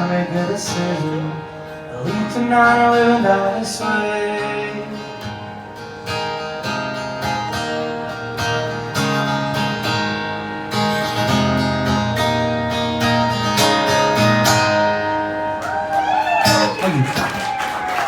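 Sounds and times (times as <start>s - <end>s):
acoustic guitar strumming chords: 0.0s - 17.2s.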